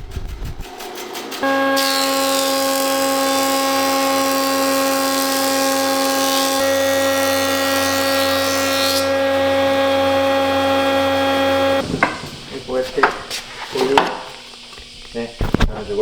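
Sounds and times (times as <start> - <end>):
woodworking machine motor whine: 1.4 - 15.3.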